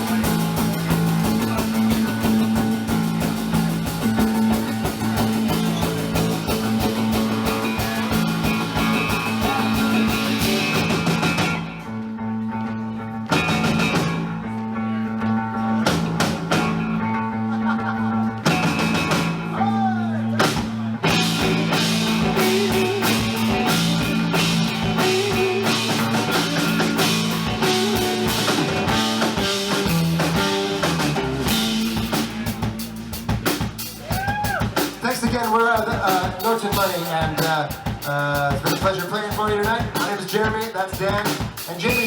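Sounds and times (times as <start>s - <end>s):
drum kit: 0.0s - 12.0s, 13.2s - 14.5s, 15.8s - 17.3s, 18.4s - 19.7s, 20.3s - 42.0s
bass guitar: 0.0s - 42.0s
electric guitar: 0.0s - 42.0s.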